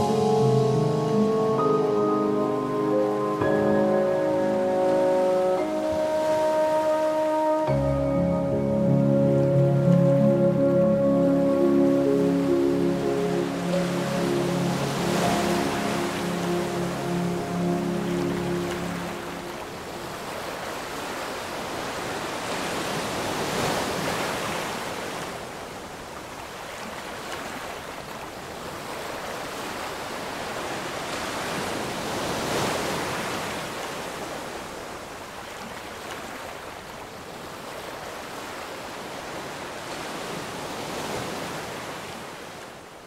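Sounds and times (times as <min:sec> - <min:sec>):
ocean waves rushing: 0:00.0 - 0:42.9.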